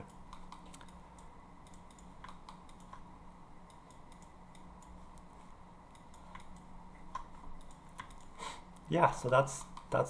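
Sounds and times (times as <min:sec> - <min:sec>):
keyboard and mouse clicks: 0:00.0 - 0:05.3, 0:05.9 - 0:10.0
low steady hum: 0:00.0 - 0:10.0.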